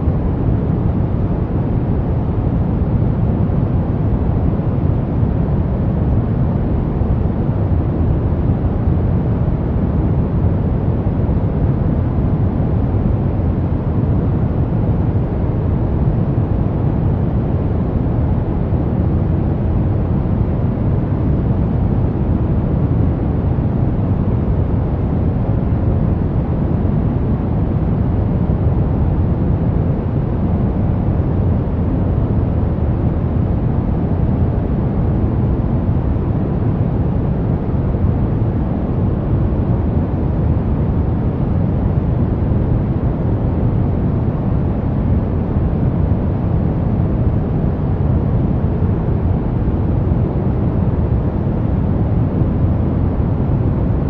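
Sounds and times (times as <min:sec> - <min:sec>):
brown noise: 0:00.0 - 0:54.0.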